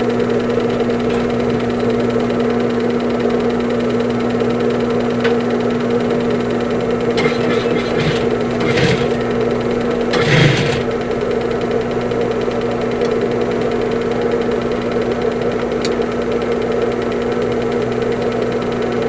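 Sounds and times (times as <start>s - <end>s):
sewing machine motor humming: 0.0s - 19.0s.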